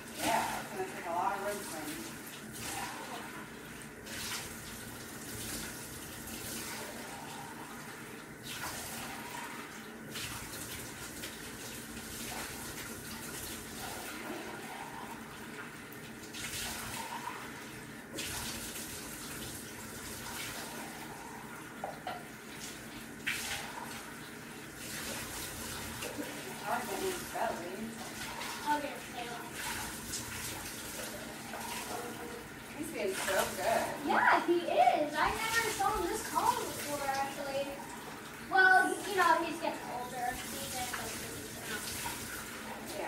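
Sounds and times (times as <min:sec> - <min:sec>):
water running from tap: 0:00.0 - 0:43.0
water splashing in tub: 0:00.0 - 0:43.0.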